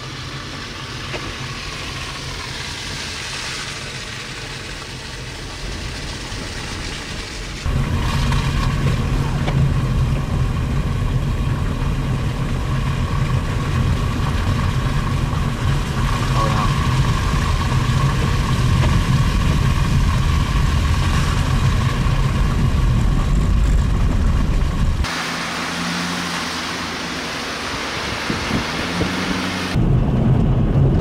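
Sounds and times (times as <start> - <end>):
car engine: 0.0 - 31.0
road rumble: 0.0 - 31.0.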